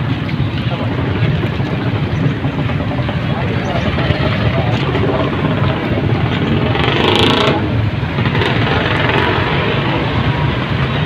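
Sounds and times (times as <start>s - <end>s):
crowd hubbub: 0.0s - 11.0s
motorcycle engines rumbling: 0.0s - 11.0s.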